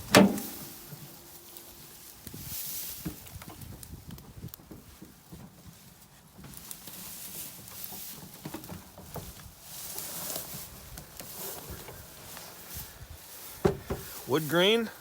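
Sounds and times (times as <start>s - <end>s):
small knocks and rustles: 0.0s - 14.3s
footsteps on rough ground: 0.0s - 15.0s.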